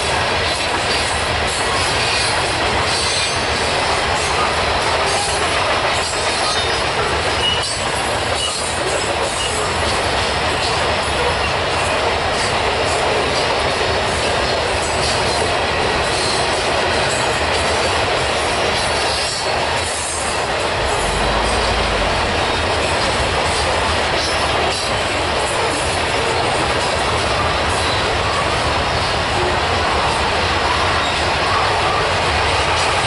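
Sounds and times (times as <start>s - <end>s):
train wheels rushing on rail: 0.0s - 33.0s.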